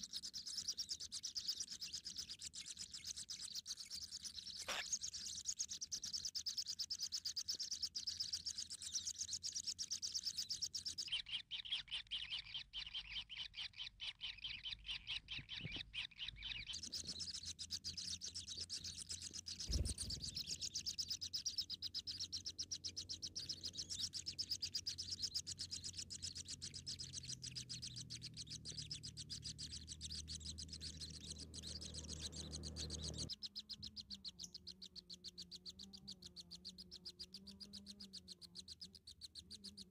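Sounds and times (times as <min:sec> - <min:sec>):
nestling birds chirping: 0:00.0 - 0:39.9.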